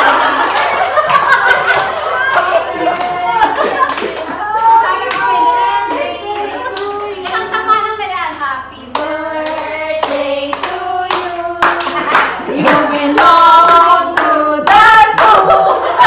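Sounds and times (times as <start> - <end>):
women singing together: 0.0 - 16.0
hands clapping: 0.2 - 7.5, 8.9 - 15.5.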